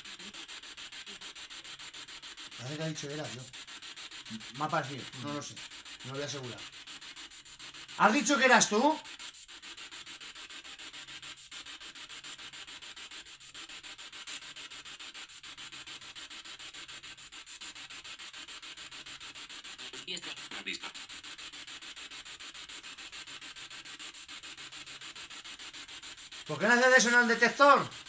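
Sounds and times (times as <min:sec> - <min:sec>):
pulsing hiss: 0:00.0 - 0:28.0.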